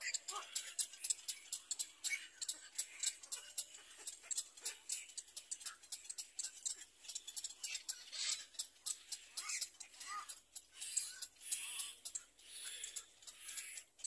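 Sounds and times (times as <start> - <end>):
high clicking and ticking: 0.0 - 14.0.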